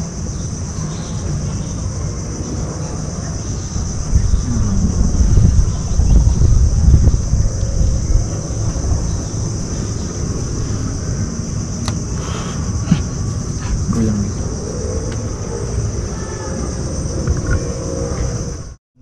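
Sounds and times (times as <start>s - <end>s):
insects droning: 0.0s - 18.8s
wind rumble on microphone: 0.0s - 18.8s.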